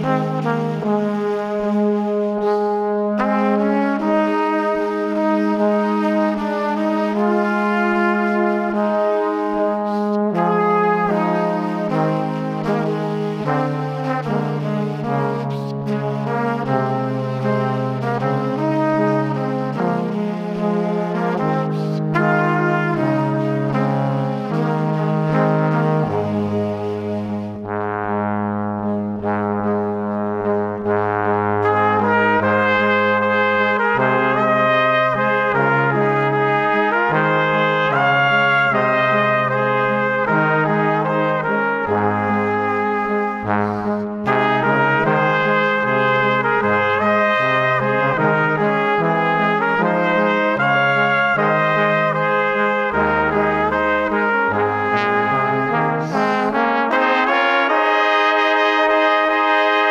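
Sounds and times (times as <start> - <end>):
instrumental tune with bass line: 0.0 - 59.9.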